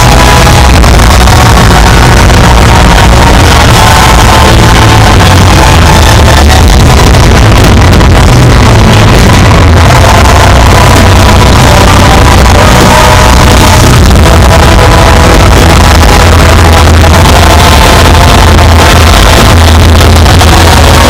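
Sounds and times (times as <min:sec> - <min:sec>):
electronic music with heavy bass: 0:00.0 - 0:21.0
fireworks bursting: 0:00.0 - 0:21.0.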